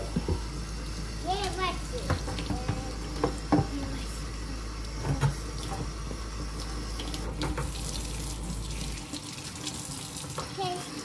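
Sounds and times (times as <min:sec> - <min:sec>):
faucet running into metal sink: 0:00.0 - 0:11.0.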